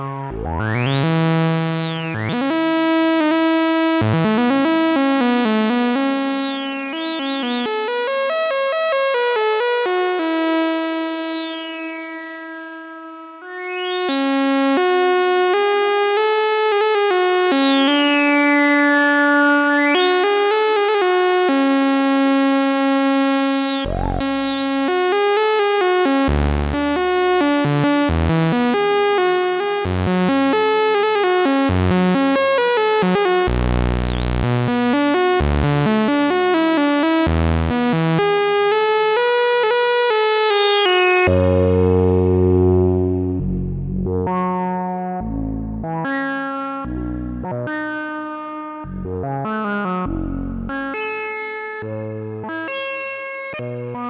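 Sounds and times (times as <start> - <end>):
low bass synth notes: 0.0 - 40.2, 40.8 - 50.9
synthesizer held notes: 0.0 - 44.2.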